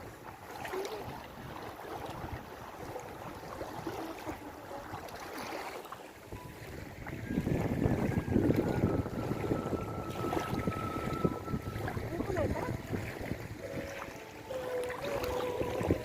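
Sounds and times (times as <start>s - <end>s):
wind buffeting microphone: 0.0s - 5.3s, 6.2s - 16.0s
rushing water: 0.0s - 16.0s.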